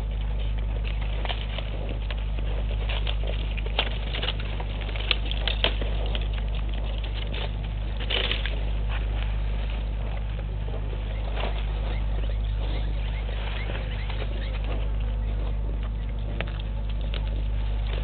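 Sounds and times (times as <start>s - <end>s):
animal tearing and chewing grass: 0.0s - 18.0s
low steady hum: 0.0s - 18.0s.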